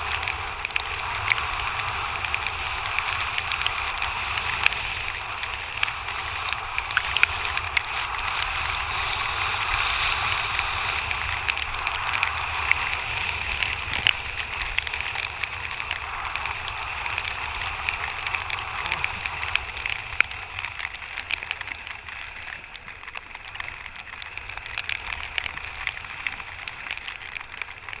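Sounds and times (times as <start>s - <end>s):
water and wind rushing: 0.0s - 28.0s.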